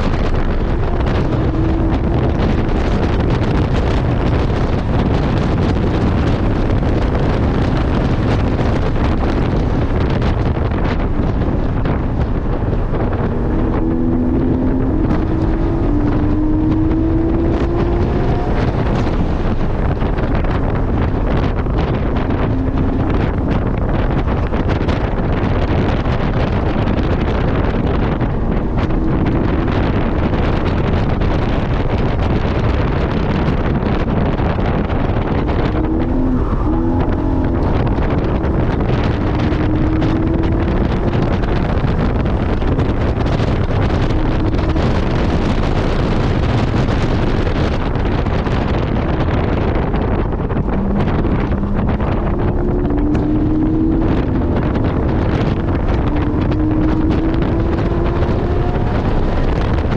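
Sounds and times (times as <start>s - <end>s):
car engine revving through gears: 0.0s - 59.9s
wind and road noise: 0.0s - 59.9s.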